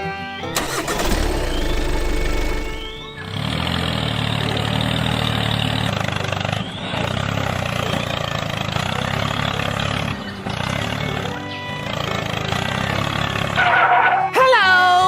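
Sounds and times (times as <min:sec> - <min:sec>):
engine running: 0:00.0 - 0:14.2.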